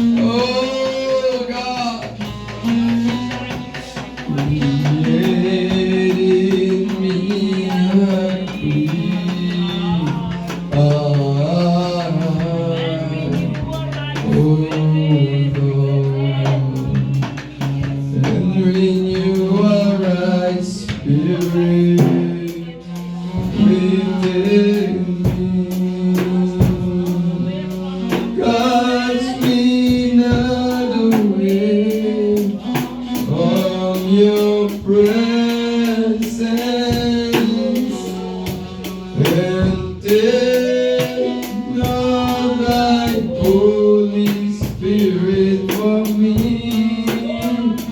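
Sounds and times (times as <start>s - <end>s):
person singing slow melody: 0.0s - 47.9s
steady drum beat: 0.0s - 47.9s
sustained instrumental chords: 0.0s - 47.9s.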